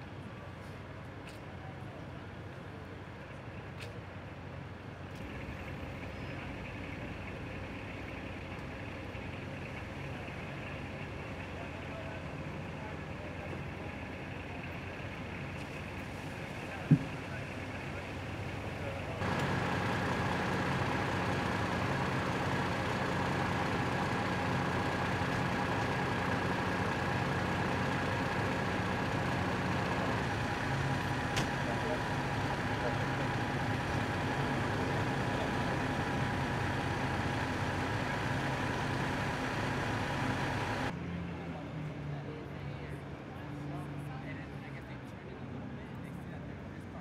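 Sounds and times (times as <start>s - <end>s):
street noise hiss: 0.0s - 40.9s
fire engine idling: 0.0s - 41.6s.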